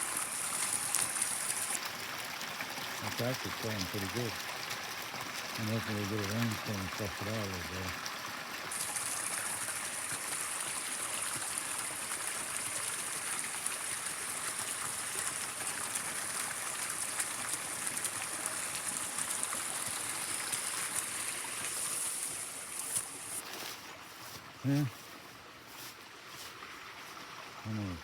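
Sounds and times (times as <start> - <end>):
water rushing through drainage pipe: 0.0 - 28.0.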